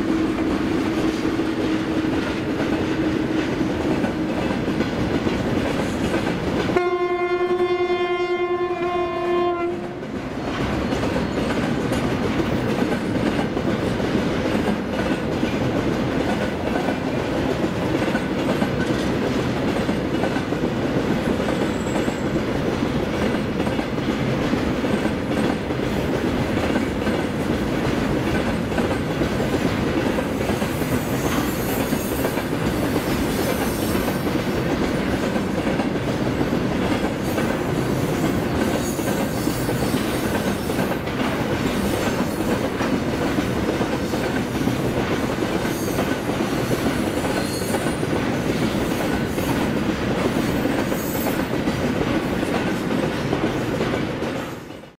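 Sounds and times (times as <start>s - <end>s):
train wheels on rails: 0.0s - 54.9s.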